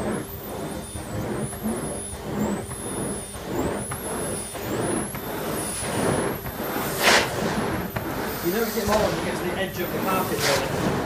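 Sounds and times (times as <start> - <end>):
vacuum cleaner on carpet: 0.0 - 11.0.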